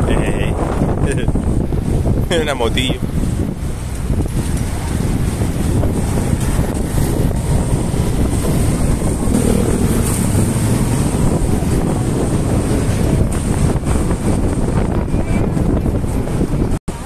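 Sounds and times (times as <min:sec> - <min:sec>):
wind on microphone: 0:00.0 - 0:17.0
vehicle running and road noise: 0:00.6 - 0:17.0.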